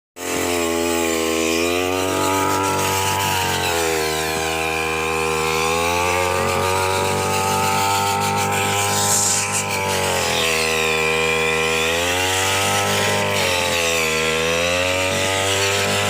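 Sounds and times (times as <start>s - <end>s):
brush cutter engine running: 0.2s - 16.0s.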